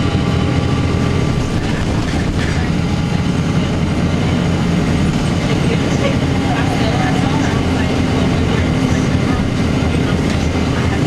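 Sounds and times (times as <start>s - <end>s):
bus diesel engine droning: 0.0s - 11.0s
road noise: 0.0s - 11.0s.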